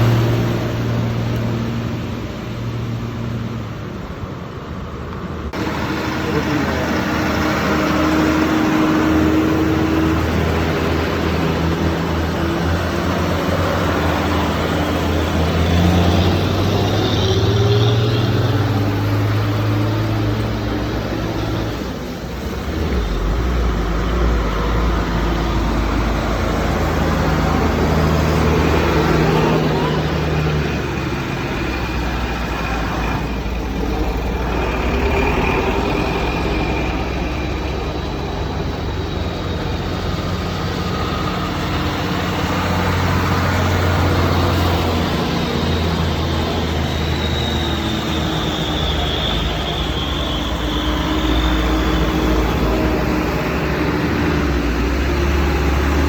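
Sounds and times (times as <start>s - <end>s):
passing traffic: 0.0s - 56.0s.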